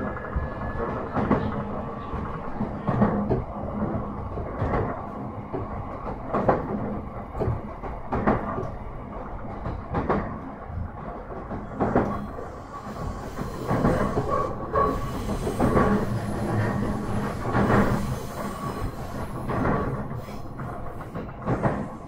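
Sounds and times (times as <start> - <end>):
train rumble of wheels and motors: 0.0 - 22.0.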